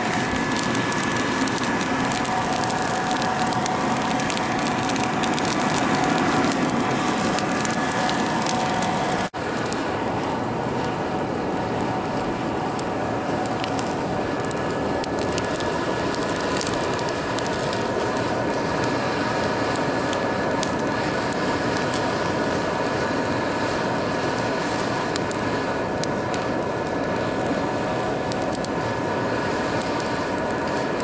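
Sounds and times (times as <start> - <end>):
faint whine: 0.0 - 31.0
steady rushing noise: 0.0 - 31.0
wood fire crackling and popping: 0.0 - 31.0.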